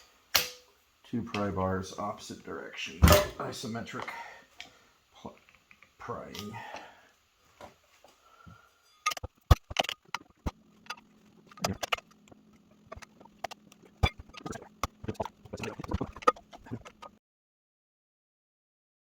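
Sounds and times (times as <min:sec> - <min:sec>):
faint steady hum: 0:00.0 - 0:17.2.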